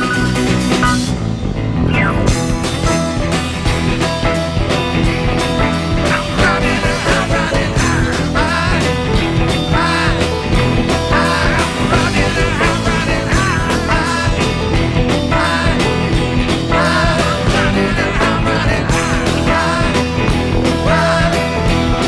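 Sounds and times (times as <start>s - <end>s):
electric guitar: 0.0s - 22.0s
rock music: 0.0s - 22.0s
steady drum beat: 0.0s - 22.0s.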